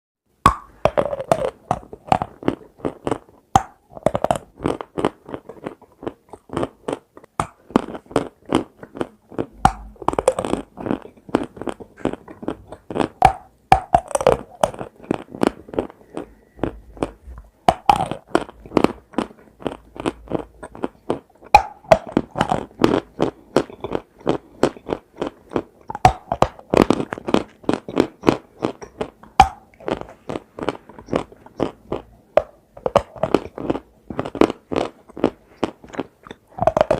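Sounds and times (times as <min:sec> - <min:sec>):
chewing dry crunchy food: 0:00.6 - 0:36.9.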